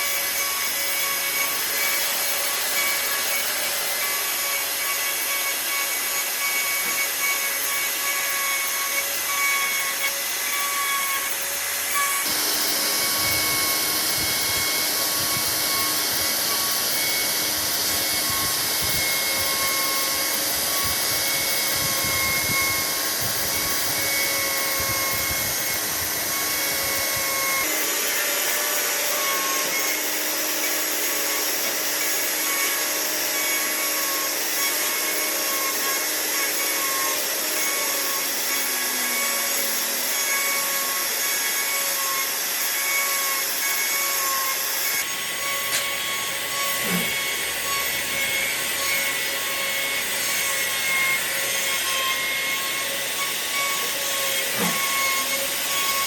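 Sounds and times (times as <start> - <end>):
power tool whining on wood: 0.0 - 56.0.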